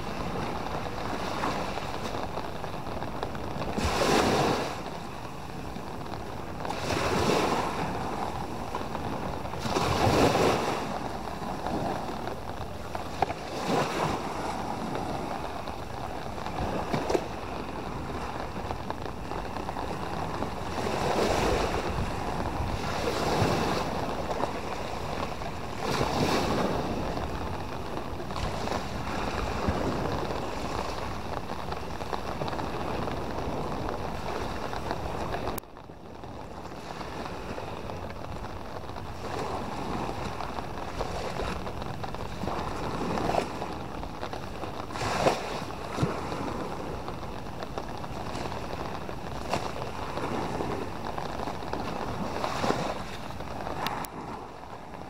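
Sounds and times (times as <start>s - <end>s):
small waves washing on sand: 0.0s - 55.0s.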